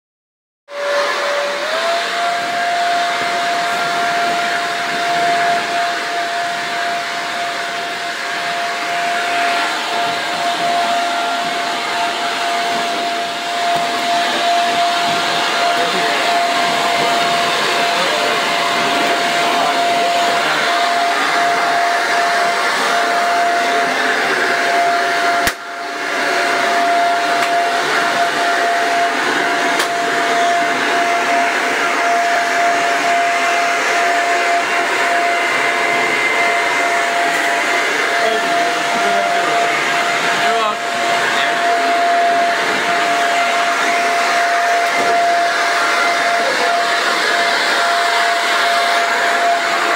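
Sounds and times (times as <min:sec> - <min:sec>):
electric leaf blower running: 0:00.7 - 0:49.9.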